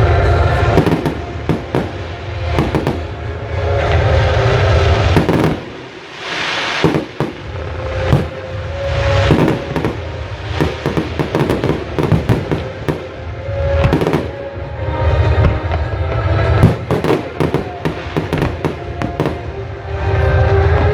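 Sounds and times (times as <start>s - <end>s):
fireworks cracks and bangs: 0.0s - 20.9s
hissing crackle: 0.0s - 20.9s.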